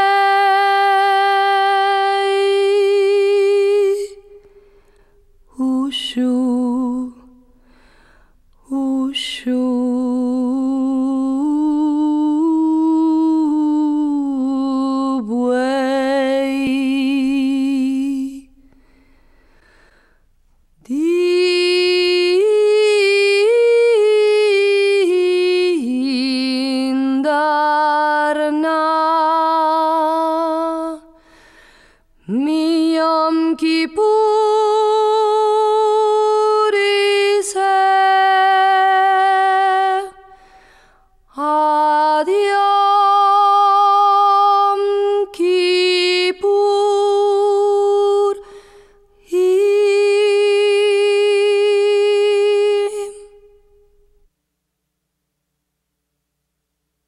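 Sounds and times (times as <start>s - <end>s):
woman singing a cappella: 0.0s - 4.6s, 5.5s - 7.6s, 8.5s - 18.8s, 20.8s - 31.4s, 32.2s - 54.2s.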